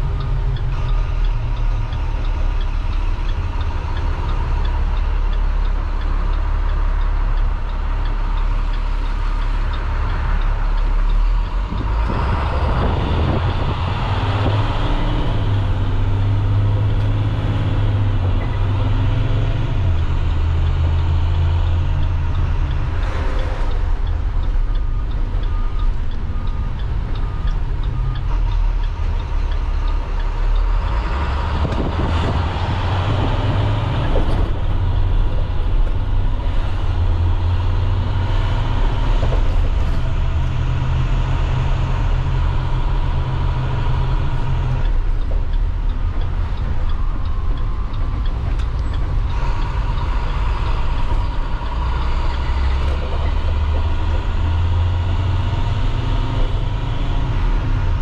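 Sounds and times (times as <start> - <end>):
diesel bus engine idling and accelerating: 0.0 - 58.0.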